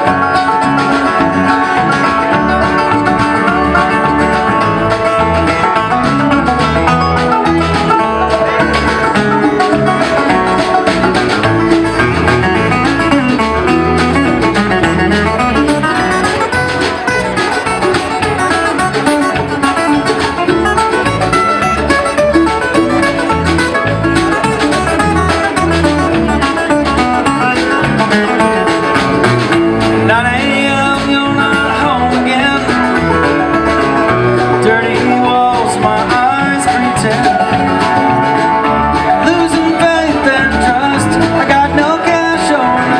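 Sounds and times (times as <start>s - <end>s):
banjo: 0.0s - 42.9s
bluegrass band playing: 0.0s - 42.9s.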